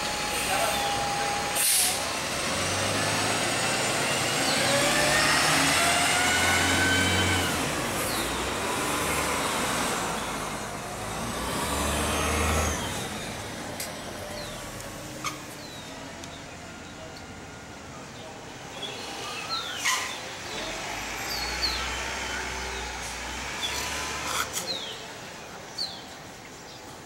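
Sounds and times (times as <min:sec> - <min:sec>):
bus engine hum: 0:00.0 - 0:26.0.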